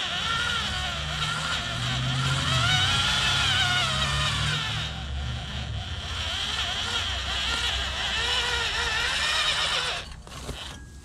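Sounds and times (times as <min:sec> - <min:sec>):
electric drill boring through wood: 0:00.0 - 0:10.9.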